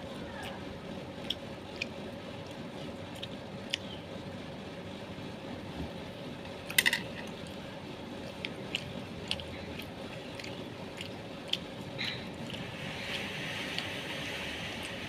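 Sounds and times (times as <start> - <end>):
person chewing food: 0.4 - 4.0, 5.8 - 15.0.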